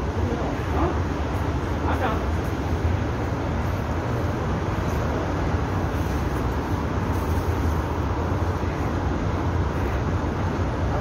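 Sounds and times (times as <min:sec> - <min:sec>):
railway platform rumble: 0:00.0 - 0:11.0.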